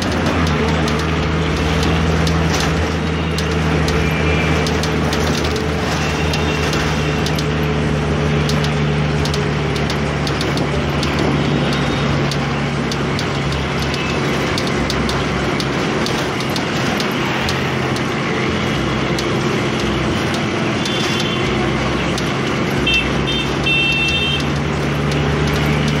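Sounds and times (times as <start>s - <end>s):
bus engine droning: 0.0s - 26.0s
bus fittings rattling: 0.0s - 26.0s
road and wind noise: 0.0s - 26.0s.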